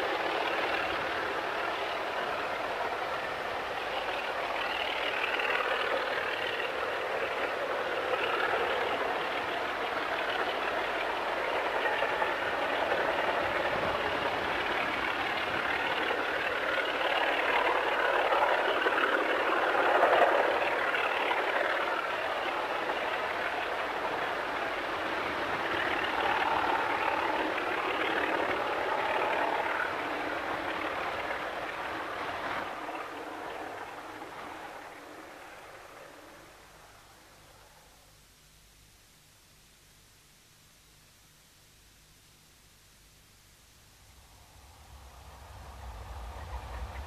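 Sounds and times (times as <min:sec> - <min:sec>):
diesel locomotive engine working: 0:00.0 - 0:38.2, 0:44.1 - 0:47.0.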